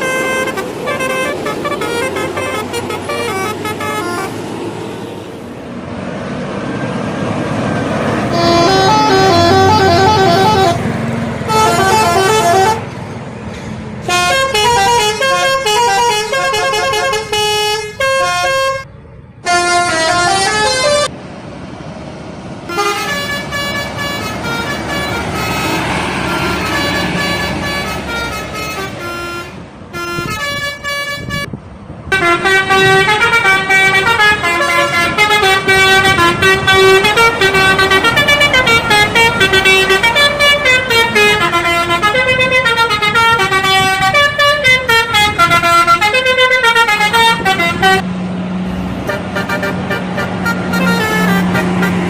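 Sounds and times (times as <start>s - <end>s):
multi-tone bus air horns: 0.0s - 4.5s, 8.1s - 13.0s, 14.0s - 21.1s, 22.7s - 48.1s, 48.7s - 52.0s
steady traffic noise: 0.0s - 52.0s.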